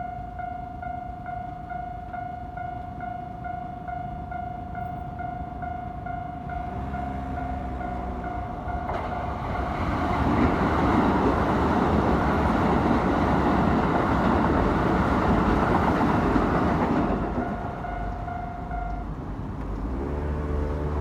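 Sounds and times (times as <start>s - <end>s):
crossing warning bell: 0.0s - 21.0s
electric train passing: 0.0s - 21.0s.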